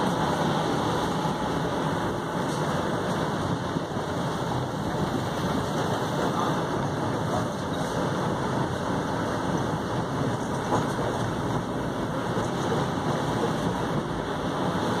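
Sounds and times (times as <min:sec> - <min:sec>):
streetcar running rumble: 0:00.0 - 0:15.0.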